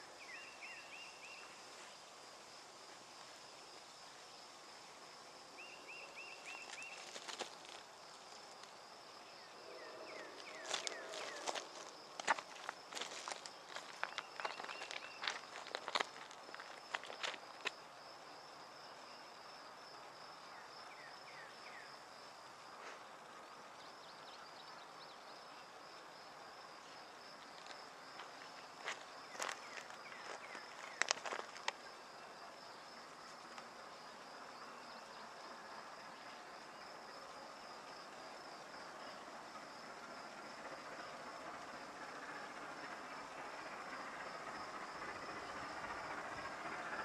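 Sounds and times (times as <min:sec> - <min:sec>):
shrill insect drone: 0:00.0 - 0:22.7, 0:23.5 - 0:47.0.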